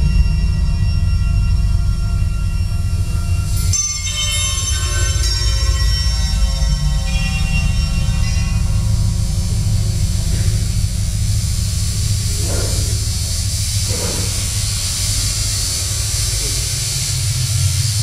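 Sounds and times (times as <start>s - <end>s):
loud deep electronic drone: 0.0s - 18.0s
high hiss: 3.4s - 18.0s.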